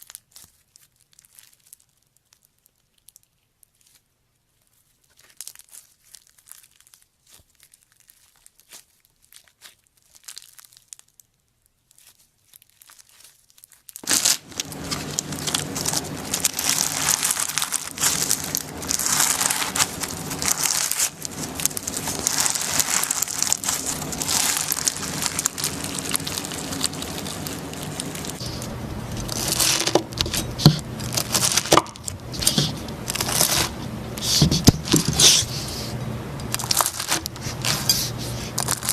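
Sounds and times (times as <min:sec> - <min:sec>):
slime crackling when squeezed: 0:04.8 - 0:35.2, 0:36.4 - 0:38.9.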